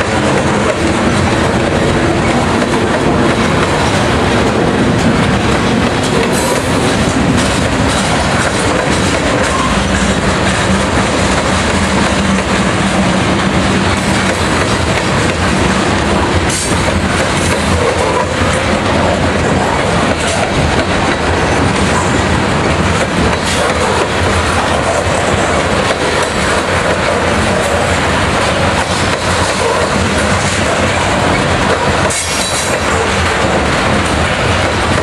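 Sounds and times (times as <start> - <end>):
train cars rumbling and rattling: 0.0 - 35.0.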